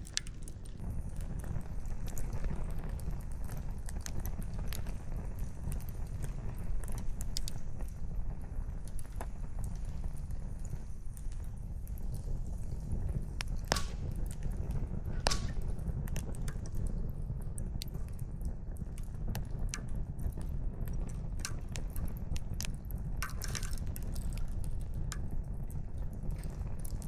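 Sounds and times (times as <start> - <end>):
campfire crackling: 0.0 - 27.0
low fire rumble: 0.0 - 27.0.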